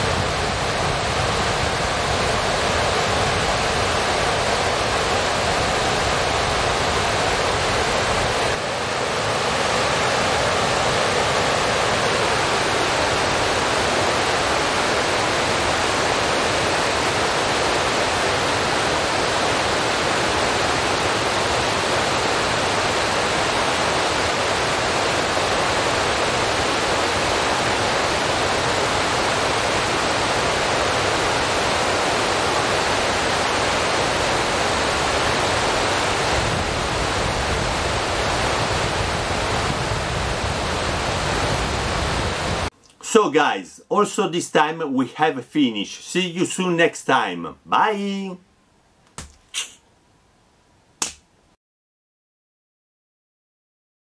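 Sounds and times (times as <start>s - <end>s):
steady rushing hiss: 0.0s - 48.4s.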